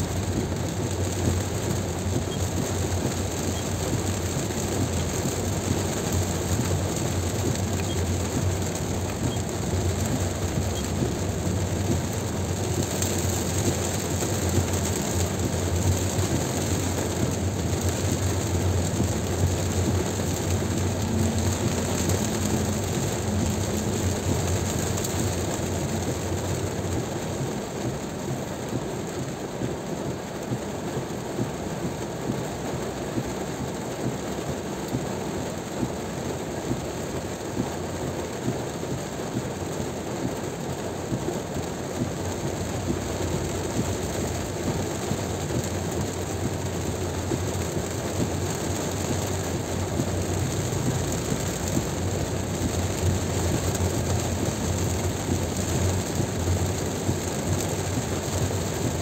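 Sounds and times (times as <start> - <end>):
rain and wet tyres hiss: 0.0 - 59.0
road and engine rumble: 0.0 - 59.0.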